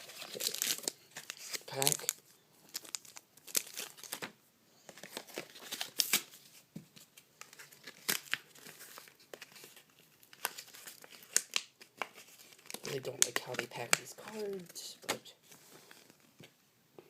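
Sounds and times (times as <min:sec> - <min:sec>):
plastic packaging crackling and tearing: 0:00.0 - 0:06.6, 0:07.4 - 0:16.3.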